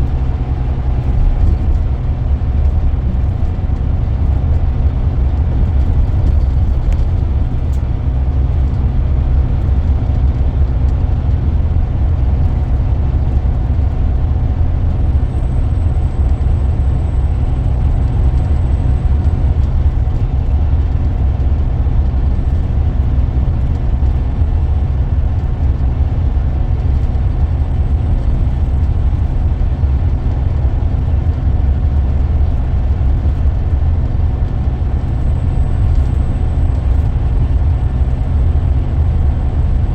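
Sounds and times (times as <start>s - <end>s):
coach diesel engine droning: 0.0s - 39.9s
road noise: 0.0s - 39.9s.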